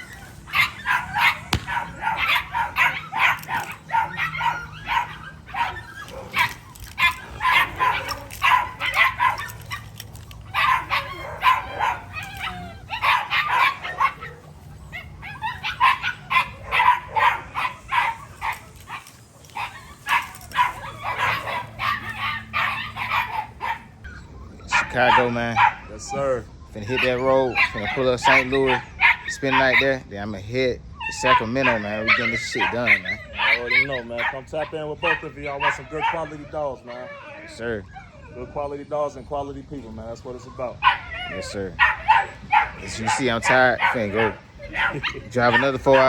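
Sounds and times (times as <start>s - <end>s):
dogs barking and yipping: 0.0s - 46.0s.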